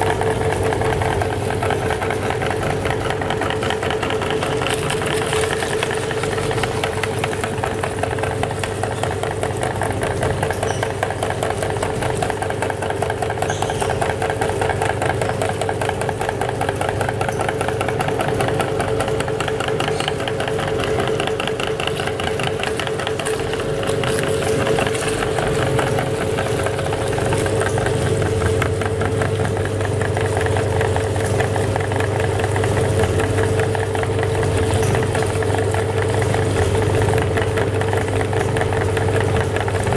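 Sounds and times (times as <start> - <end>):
meat grinder humming and rattling: 0.0 - 39.9.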